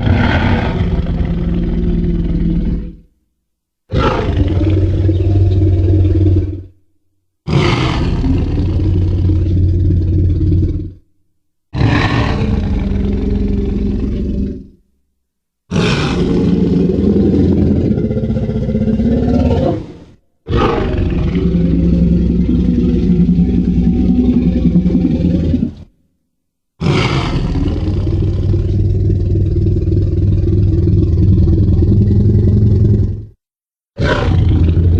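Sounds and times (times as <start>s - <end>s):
deep dinosaur roars: 0.0s - 3.1s, 3.9s - 6.8s, 7.5s - 11.0s, 11.8s - 14.8s, 15.7s - 25.9s, 26.8s - 33.4s, 34.0s - 34.9s.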